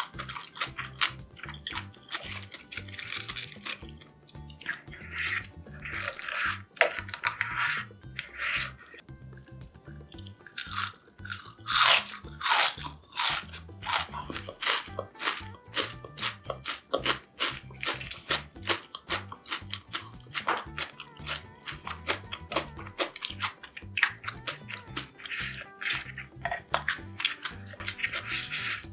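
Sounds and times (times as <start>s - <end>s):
crunching of fried food: 0.0s - 28.9s.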